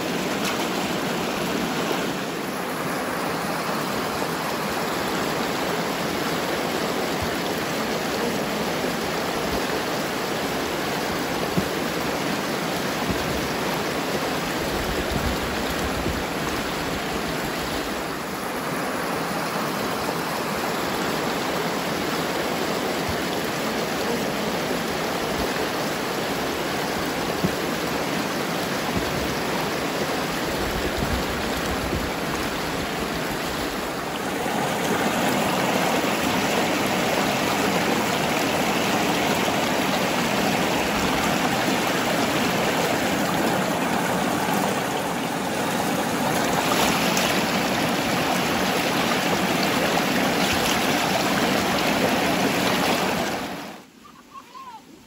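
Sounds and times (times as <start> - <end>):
water running through an outlet: 0.0 - 53.9.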